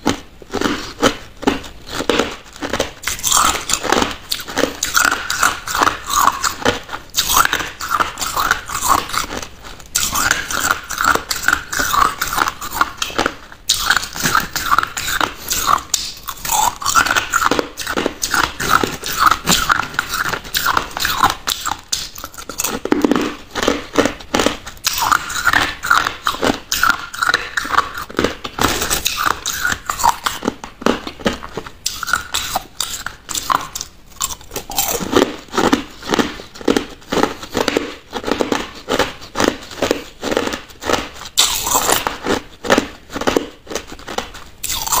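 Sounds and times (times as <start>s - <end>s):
crunching ice: 0.0s - 45.0s.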